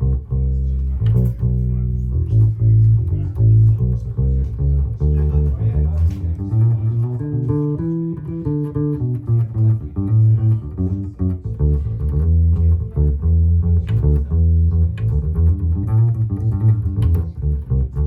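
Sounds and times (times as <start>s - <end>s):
electric bass guitar riff: 0.0s - 18.0s.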